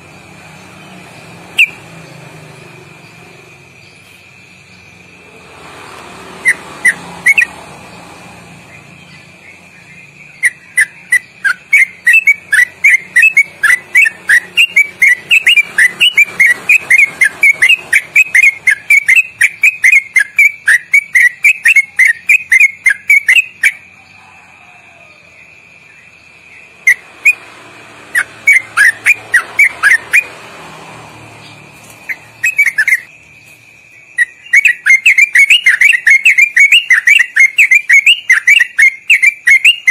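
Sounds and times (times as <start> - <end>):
bird singing whistled notes: 0.2 - 5.3, 6.4 - 24.4, 25.4 - 27.5, 28.1 - 30.4, 31.2 - 39.9.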